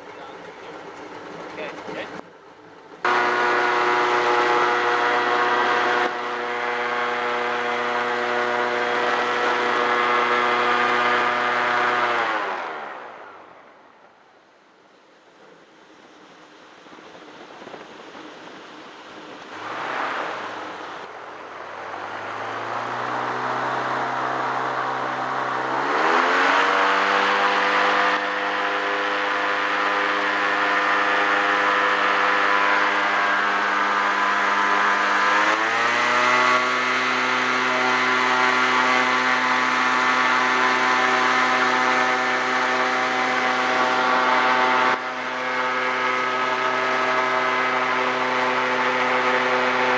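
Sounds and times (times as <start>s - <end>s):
airboat engine and propeller: 0.0s - 49.9s.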